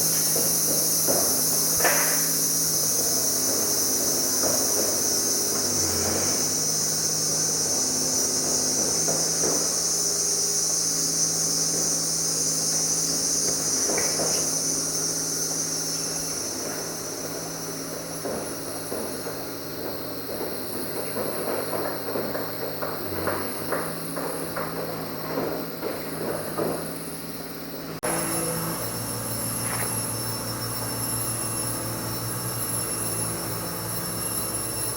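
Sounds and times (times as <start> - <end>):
jungle insects chorus: 0.0 - 34.9.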